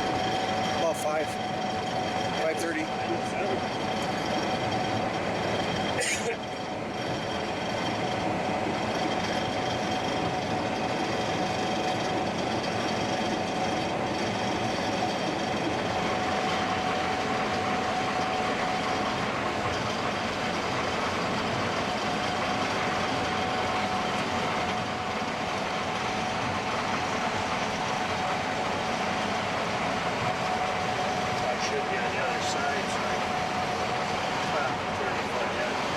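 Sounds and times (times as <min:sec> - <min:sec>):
combine harvester rumble: 0:00.0 - 0:35.9.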